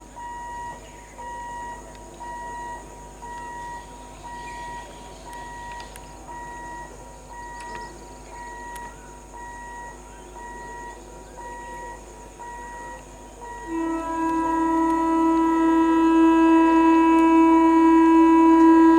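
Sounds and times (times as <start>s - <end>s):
electronic warning beeps: 0.2s - 15.5s.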